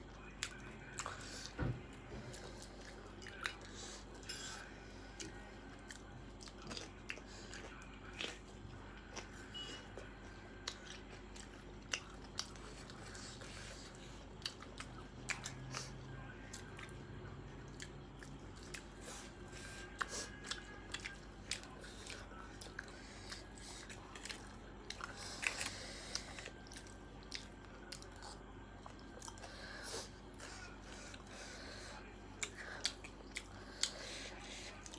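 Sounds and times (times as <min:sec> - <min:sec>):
chewing and crunching snack food: 0:00.0 - 0:34.9.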